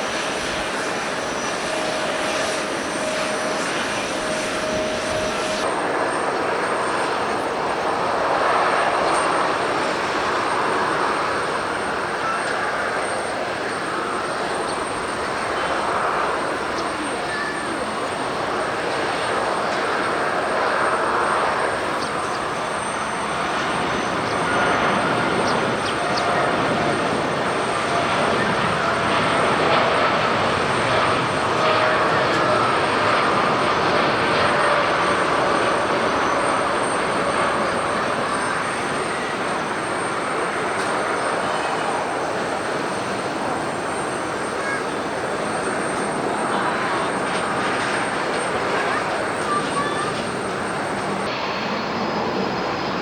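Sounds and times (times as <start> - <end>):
jet airliner engines passing: 0.0 - 53.0.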